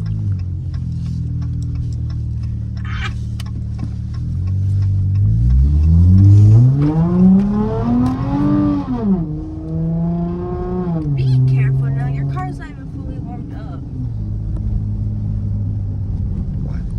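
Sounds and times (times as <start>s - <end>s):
car engine and exhaust revving: 0.0s - 16.9s.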